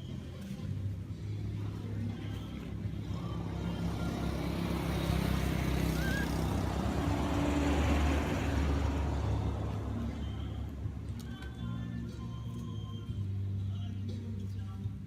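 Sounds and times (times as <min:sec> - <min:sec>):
tyre and road noise: 0:00.0 - 0:15.0
vehicle engine hum: 0:00.0 - 0:15.0.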